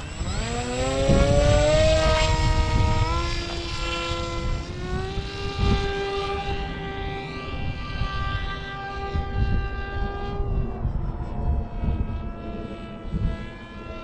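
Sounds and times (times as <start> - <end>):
electric motor and propeller whining: 0.0 - 14.0
wind rumble on microphone: 0.0 - 14.0.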